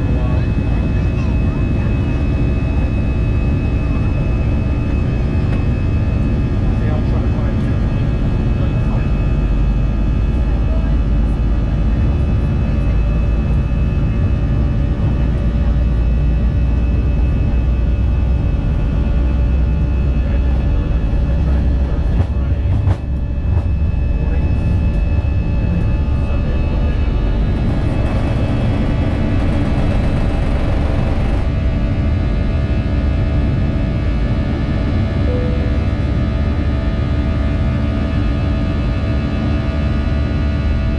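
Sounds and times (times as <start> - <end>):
jet engine rumble in cabin: 0.0 - 40.9.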